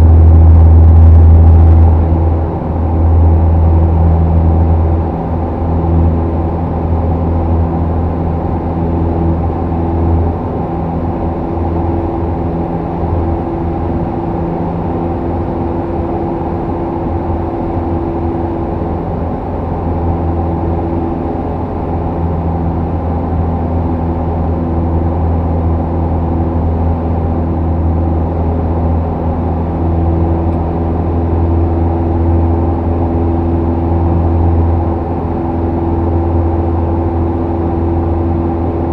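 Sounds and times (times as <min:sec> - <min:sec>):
light airplane engine drone: 0:00.0 - 0:38.9.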